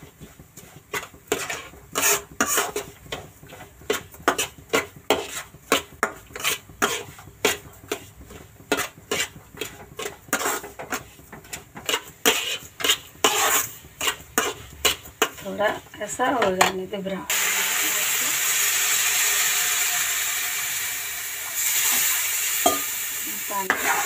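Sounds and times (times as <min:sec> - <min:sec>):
steel spatula scraping a pan: 0:00.0 - 0:19.3, 0:21.5 - 0:24.0.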